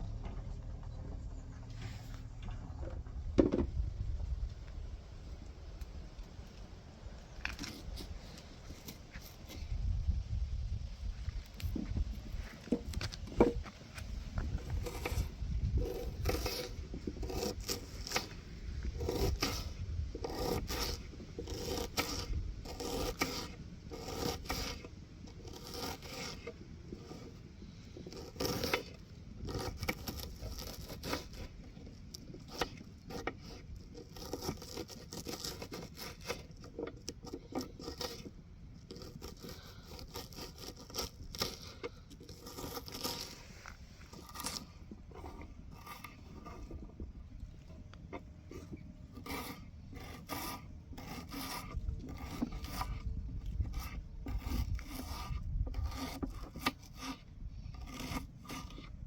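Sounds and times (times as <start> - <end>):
scraping and rubbing: 0.0 - 4.4, 7.2 - 10.2, 11.2 - 59.0.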